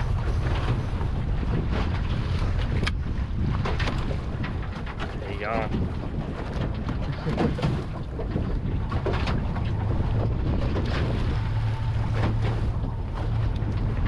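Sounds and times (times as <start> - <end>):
boat motor humming: 0.0 - 14.0
wind buffeting microphone: 0.0 - 14.0.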